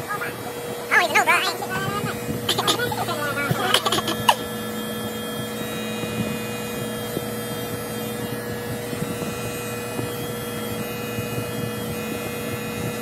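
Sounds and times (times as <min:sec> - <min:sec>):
electric hair clippers humming: 0:00.0 - 0:13.0.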